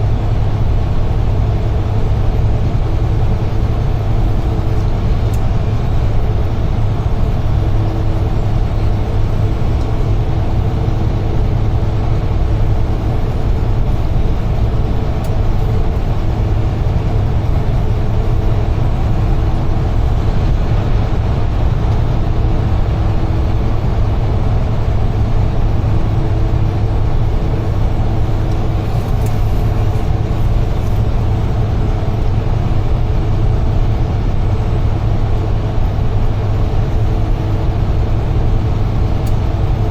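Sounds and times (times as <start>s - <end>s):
diesel truck engine drone: 0.0s - 39.9s
road noise: 0.0s - 39.9s.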